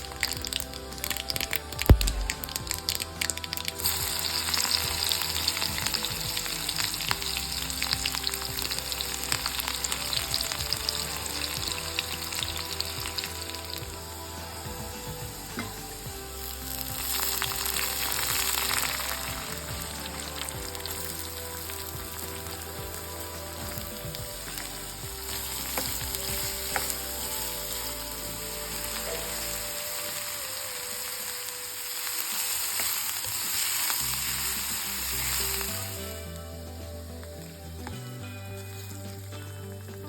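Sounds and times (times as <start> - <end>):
batter sizzling on griddle: 0.0 - 40.0.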